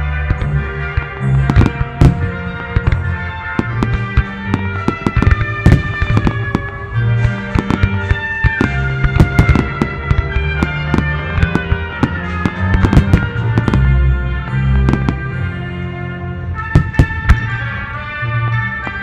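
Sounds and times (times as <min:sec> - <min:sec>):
fireworks bursting: 0:00.0 - 0:19.0
music with heavy bass: 0:00.0 - 0:19.0.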